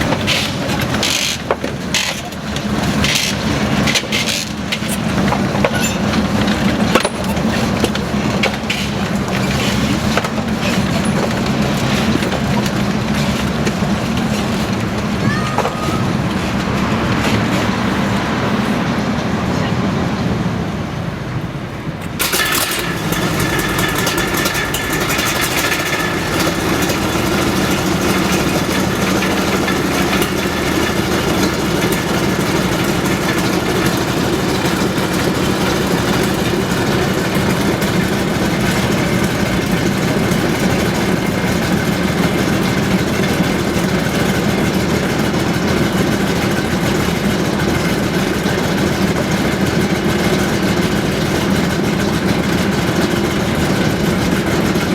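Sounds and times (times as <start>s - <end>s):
petrol engine starting and running: 0.0s - 54.9s.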